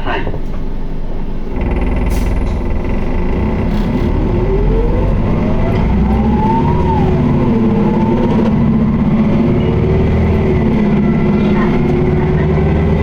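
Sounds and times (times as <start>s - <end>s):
bus diesel engine accelerating: 0.8s - 13.0s
drivetrain whine: 1.2s - 13.0s.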